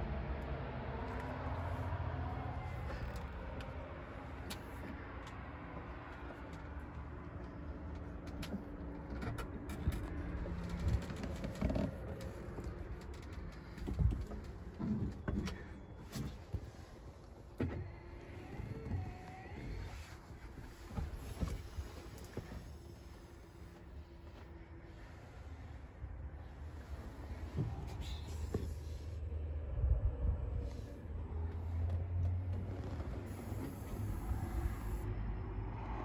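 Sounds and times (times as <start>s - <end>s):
low engine hum: 0.0s - 36.0s.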